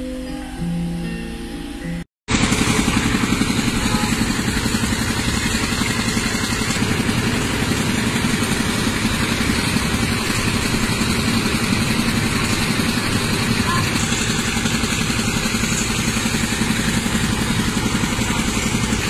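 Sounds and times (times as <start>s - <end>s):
diesel engine running: 2.3s - 19.0s.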